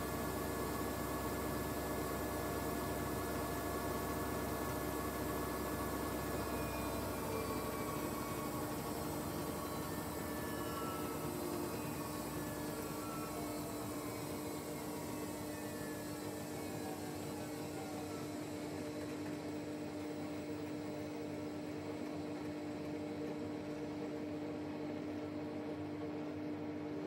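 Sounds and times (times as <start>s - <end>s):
washing machine motor whine: 0.0s - 27.0s.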